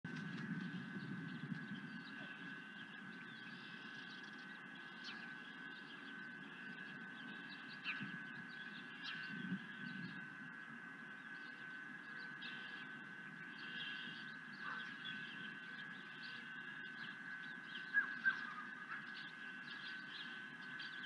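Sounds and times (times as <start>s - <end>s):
high-pitched whine: 0.1s - 21.0s
small birds chirping: 0.1s - 21.0s.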